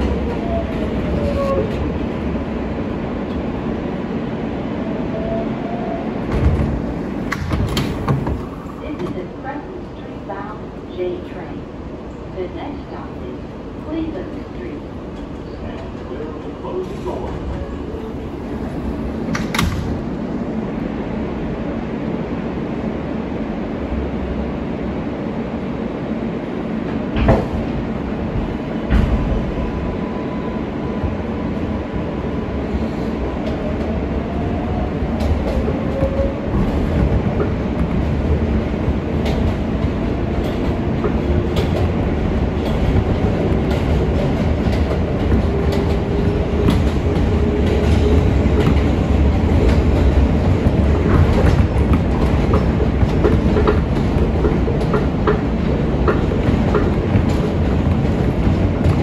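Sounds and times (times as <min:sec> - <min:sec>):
subway car rumble: 0:00.0 - 0:59.0.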